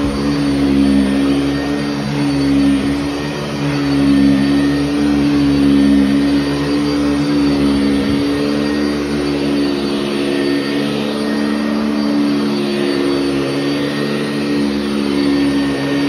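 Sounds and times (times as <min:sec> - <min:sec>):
upright vacuum cleaner on carpet: 0:00.0 - 0:16.0.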